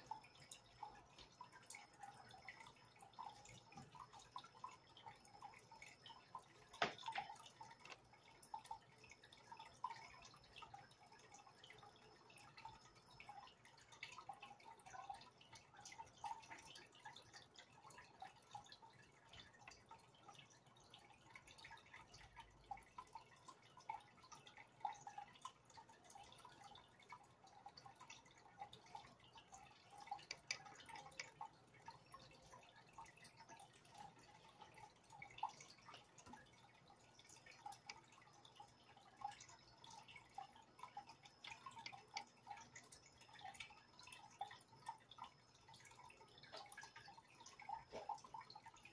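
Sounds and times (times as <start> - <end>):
water dripping and trickling: 0.0 - 48.9.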